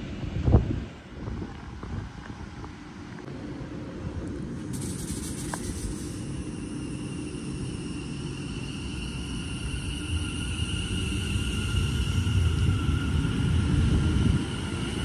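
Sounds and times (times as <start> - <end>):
electric train whine: 0.0 - 15.0
low train rumble: 0.0 - 15.0.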